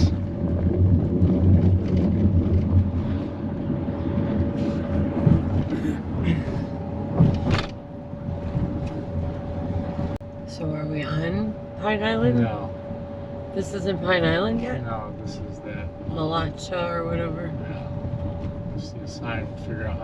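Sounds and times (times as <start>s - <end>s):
car road noise rumble: 0.0s - 20.0s
thin hum: 2.8s - 20.0s.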